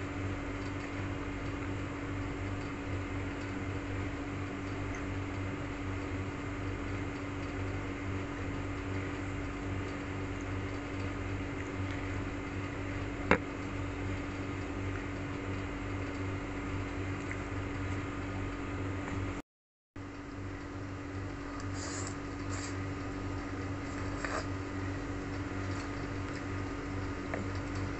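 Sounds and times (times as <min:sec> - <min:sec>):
appliance humming: 0:00.0 - 0:19.4, 0:20.0 - 0:27.9.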